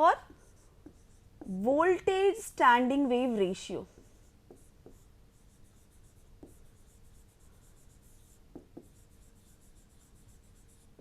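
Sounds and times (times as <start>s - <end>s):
scratchy writing strokes: 0.0s - 1.8s, 3.8s - 11.0s.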